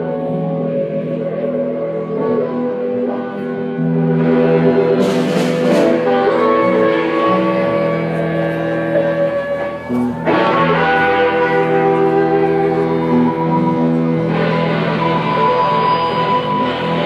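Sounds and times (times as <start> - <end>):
guitar playing held chords: 0.0 - 17.0.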